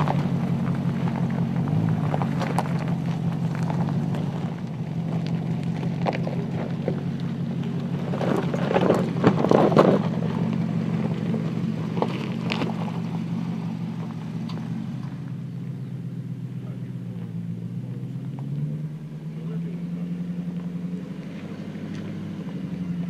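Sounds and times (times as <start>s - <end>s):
car engine running: 0.0s - 23.0s
tyres crunching on gravel: 0.0s - 23.0s.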